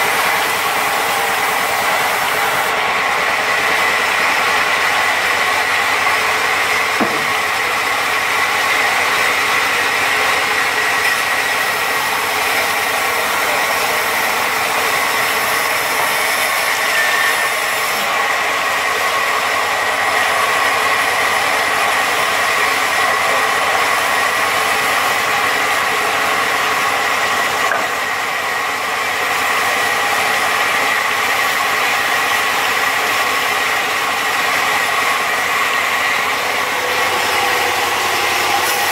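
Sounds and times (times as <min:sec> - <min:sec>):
band saw mill sawing log: 0:00.0 - 0:38.9.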